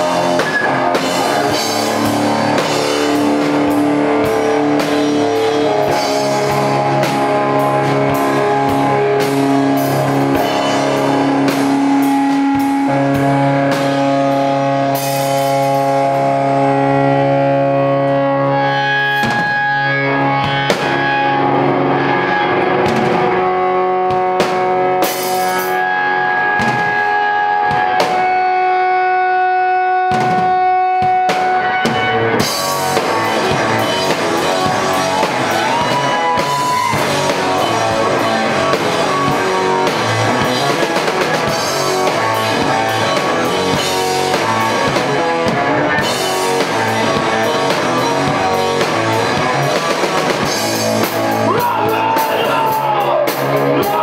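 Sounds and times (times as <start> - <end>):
drum kit: 0.0 - 54.0
guitar sustained notes: 0.0 - 54.0.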